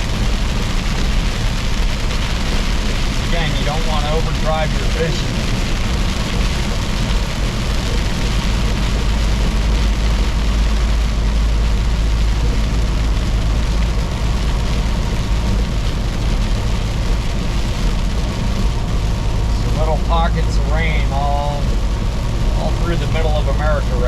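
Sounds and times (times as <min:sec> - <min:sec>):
truck engine drone: 0:00.0 - 0:24.0
tyres hissing on wet road: 0:00.0 - 0:24.0.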